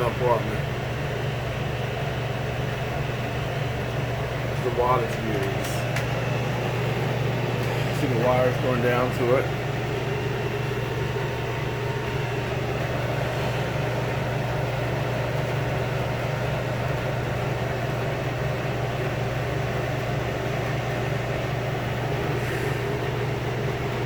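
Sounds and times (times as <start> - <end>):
air conditioners humming: 0.0 - 24.0.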